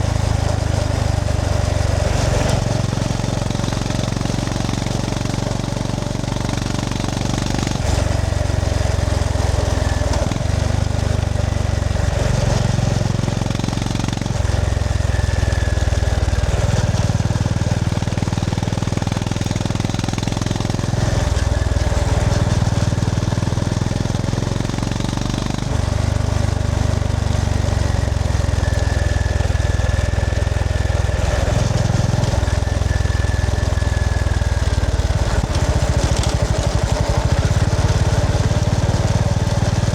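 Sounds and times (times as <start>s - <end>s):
motorcycle engine pulsing: 0.0s - 39.9s
wind and road noise: 0.0s - 39.9s.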